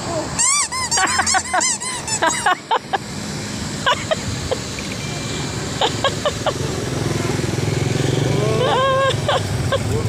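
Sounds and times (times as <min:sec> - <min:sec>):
traffic hum: 0:00.0 - 0:10.0.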